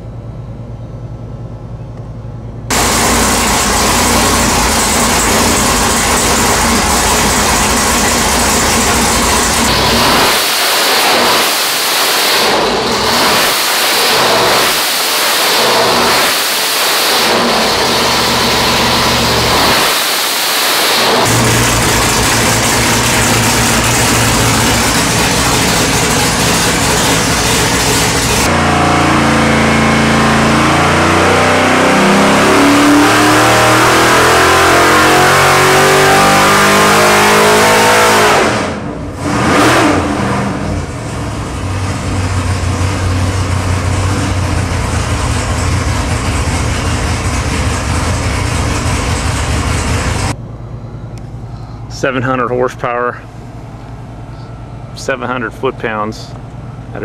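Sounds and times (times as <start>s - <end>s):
loud engine revving on a dyno: 2.7s - 50.4s.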